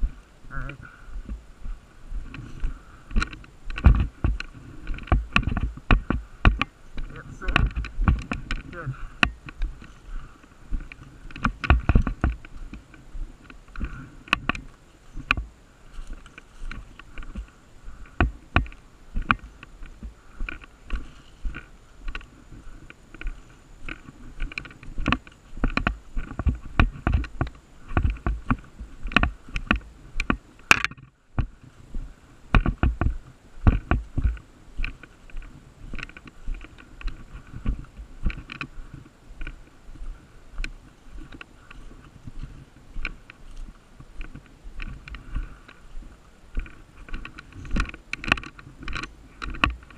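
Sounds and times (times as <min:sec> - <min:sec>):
footsteps: 0:00.0 - 0:49.9
gear rustling against camera: 0:00.0 - 0:49.9.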